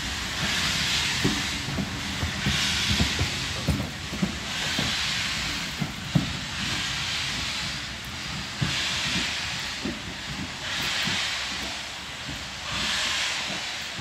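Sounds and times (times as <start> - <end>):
steam engine exhaust beats: 0.0 - 14.0
wheels knocking on track: 0.5 - 12.9.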